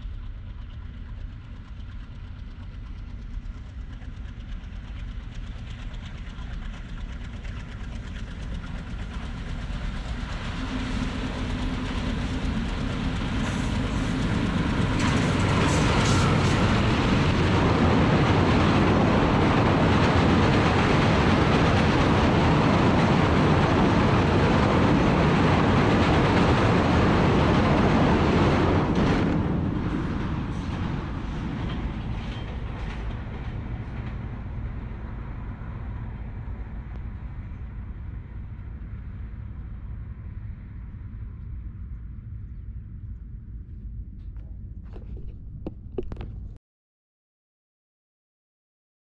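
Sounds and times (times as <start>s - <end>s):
train wheels rumbling on bridge: 0.0s - 39.8s.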